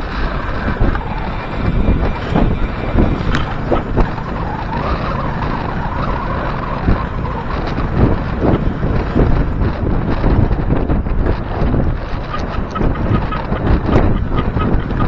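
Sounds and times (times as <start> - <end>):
tyre road noise: 0.0 - 15.0
wind on microphone: 0.0 - 15.0.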